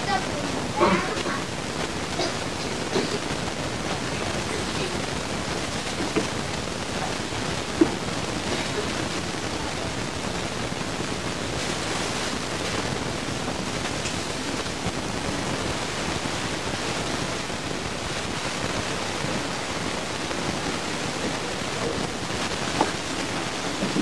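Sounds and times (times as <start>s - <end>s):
camcorder hiss: 0.0s - 24.0s.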